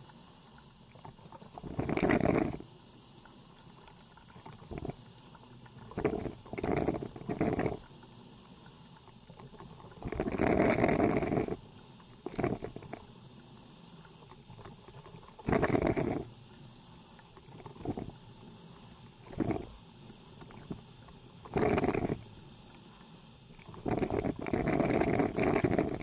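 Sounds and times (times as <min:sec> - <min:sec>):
coffee machine brewing in bursts: 0:00.0 - 0:08.0, 0:08.6 - 0:26.0
faint steady background noise: 0:00.0 - 0:26.0.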